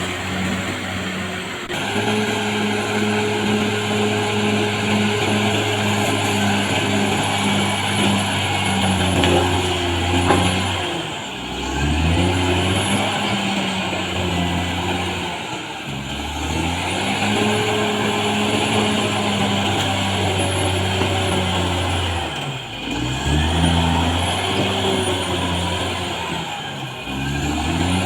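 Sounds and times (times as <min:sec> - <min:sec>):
bulldozer diesel engine under load: 0:00.0 - 0:28.0.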